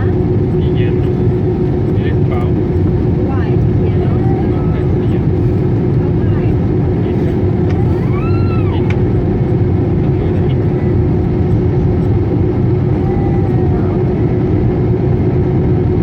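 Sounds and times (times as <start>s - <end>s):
airplane cabin engine roar: 0.0s - 16.0s
even hum: 0.0s - 16.0s.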